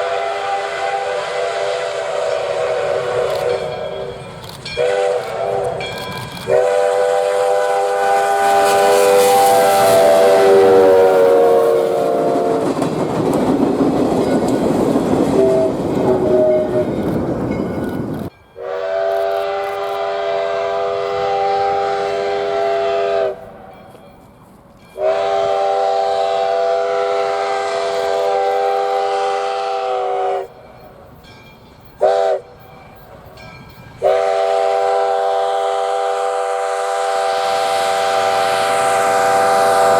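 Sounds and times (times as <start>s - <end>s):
steam locomotive whistle: 0.0s - 12.9s, 15.2s - 17.2s, 18.6s - 23.5s, 24.9s - 30.7s, 32.0s - 32.8s, 34.0s - 39.9s
train rushing by: 0.0s - 39.9s.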